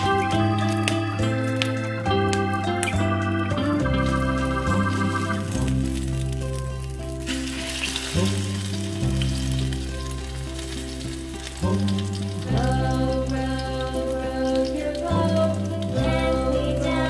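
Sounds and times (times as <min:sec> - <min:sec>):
background music with held tones: 0:00.0 - 0:17.0
meat frying in hot oil: 0:00.0 - 0:17.0.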